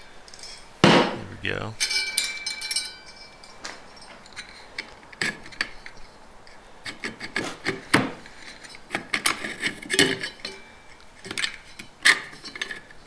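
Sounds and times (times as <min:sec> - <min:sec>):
metal plates scraping and clicking: 0:01.8 - 0:13.0.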